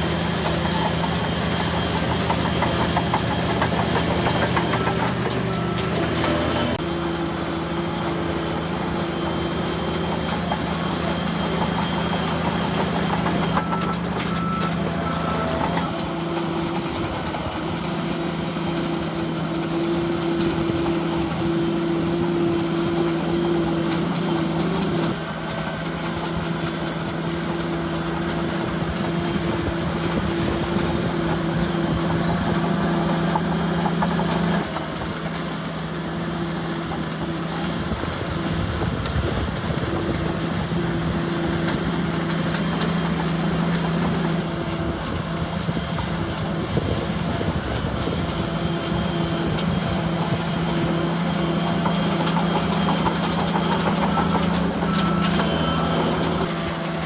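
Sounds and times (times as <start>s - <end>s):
bulldozer diesel engines humming: 0.0s - 57.0s.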